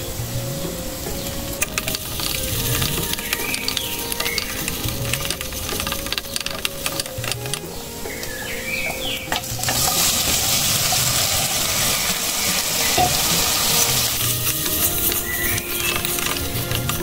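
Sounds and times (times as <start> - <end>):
soft background music: 0.0 - 17.0
metal utensils clinking: 1.2 - 17.0.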